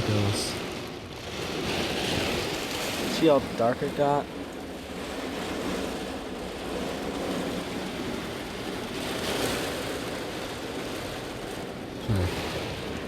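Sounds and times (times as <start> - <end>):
heavy rain on a car: 0.0 - 13.0.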